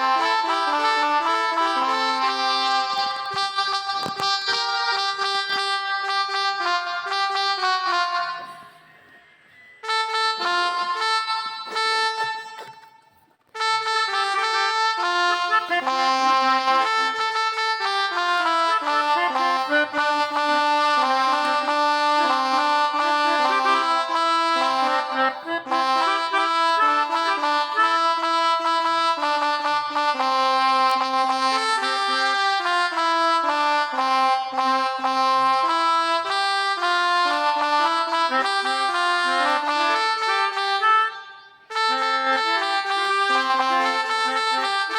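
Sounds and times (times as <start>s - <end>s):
melodica app playing held notes: 0.0s - 44.9s.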